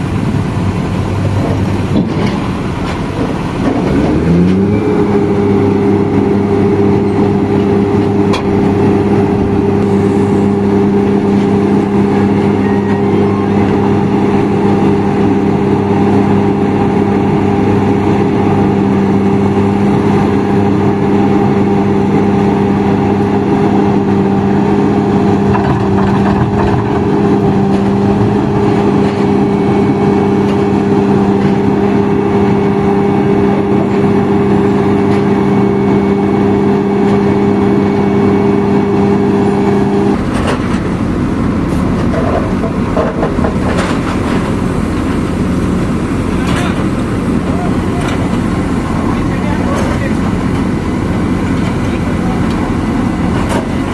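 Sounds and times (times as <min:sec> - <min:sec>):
different rumble: 0:00.0 - 0:53.9
heavy diesel machinery engine hum: 0:00.0 - 0:53.9.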